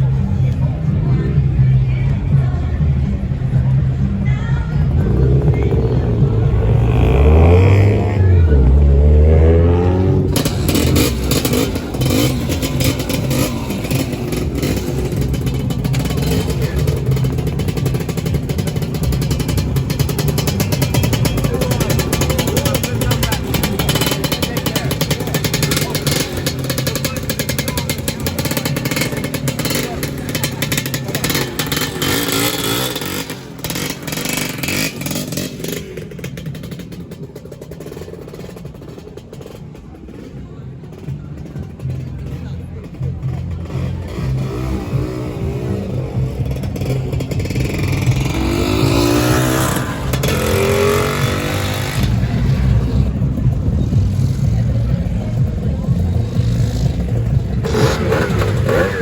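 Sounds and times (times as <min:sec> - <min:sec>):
two-stroke scooter engines revving: 0:00.0 - 0:59.0.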